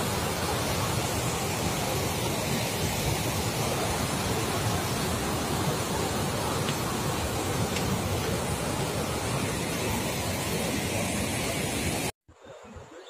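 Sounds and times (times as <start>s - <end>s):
water rushing over rocks: 0.0s - 12.1s.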